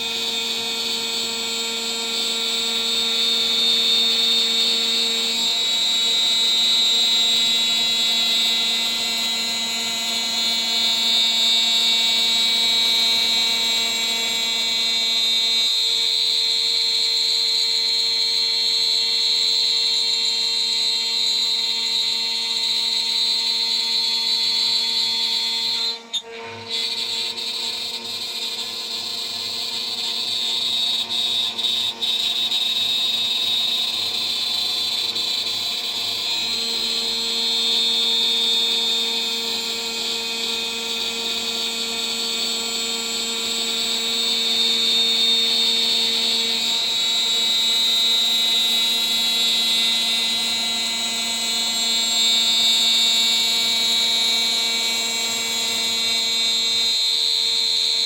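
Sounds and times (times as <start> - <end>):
milling spindle high whine: 0.0 - 58.0.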